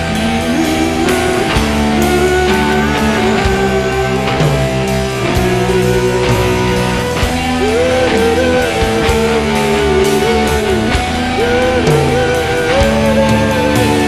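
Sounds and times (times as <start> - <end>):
electric guitar lead with bending notes: 0.0 - 14.0
rock band playing live: 0.0 - 14.0.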